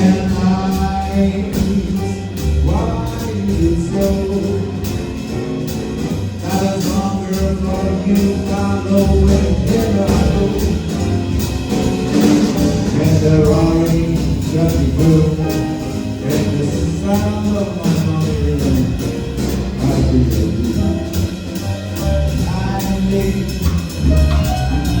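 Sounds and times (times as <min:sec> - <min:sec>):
live band playing: 0:00.0 - 0:25.0.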